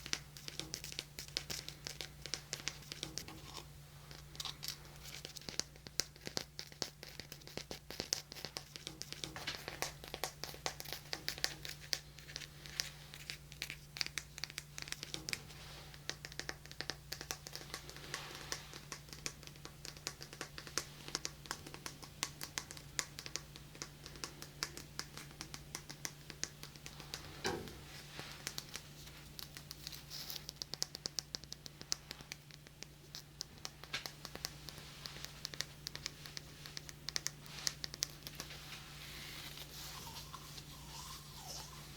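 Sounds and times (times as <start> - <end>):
fingertips tapping and scratching: 0.0 - 41.9
low electrical hum: 0.0 - 41.9.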